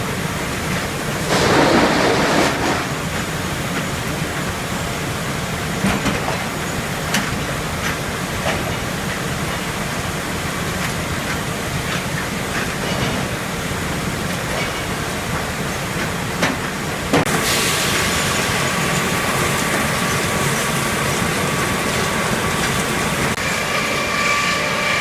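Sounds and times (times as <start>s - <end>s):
sawmill rumble and rattle: 0.0s - 25.0s.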